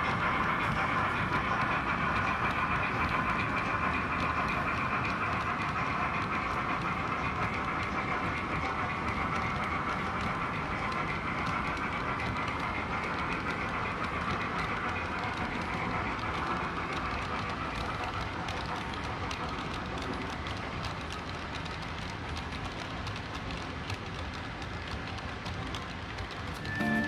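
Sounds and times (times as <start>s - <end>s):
model train wheels on track: 0.0s - 27.0s.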